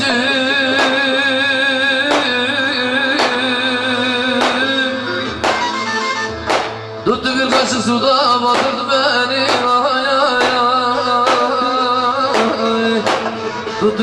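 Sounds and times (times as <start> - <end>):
man singing ornamented vocals: 0.0 - 5.4, 7.0 - 14.0
sharp percussive hits: 0.7 - 1.3, 2.1 - 13.6.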